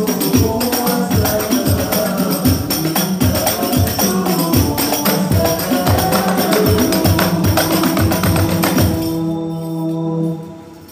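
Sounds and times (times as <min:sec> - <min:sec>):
frame drums beaten: 0:00.0 - 0:09.3
voices singing through sound system: 0:00.0 - 0:10.9.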